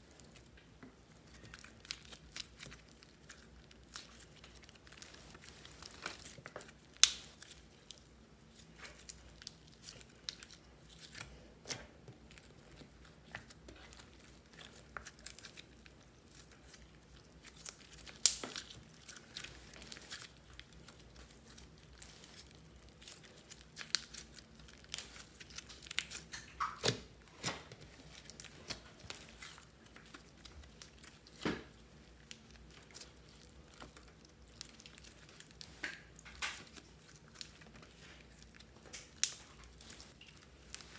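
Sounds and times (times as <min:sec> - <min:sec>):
slime squelching and popping: 0:00.0 - 0:40.9.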